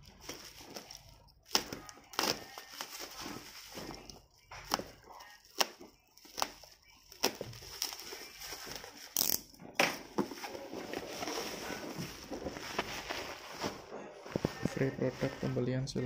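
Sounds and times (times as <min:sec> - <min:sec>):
plastic crinkling: 0:00.0 - 0:09.4, 0:10.0 - 0:15.6.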